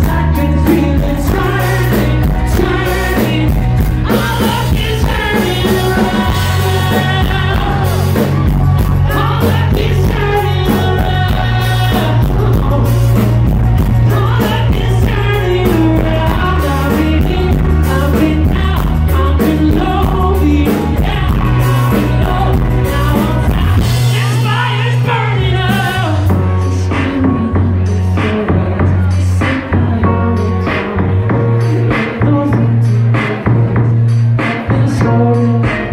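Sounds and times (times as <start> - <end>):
man singing: 0.0 - 35.9
rock band playing live: 0.0 - 35.9.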